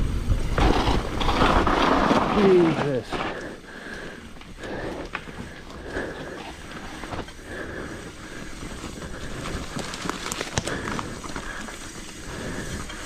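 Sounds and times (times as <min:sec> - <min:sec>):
bike tyres on dirt trail: 0:00.0 - 0:13.0
sharp clacks over bumps: 0:00.4 - 0:13.0.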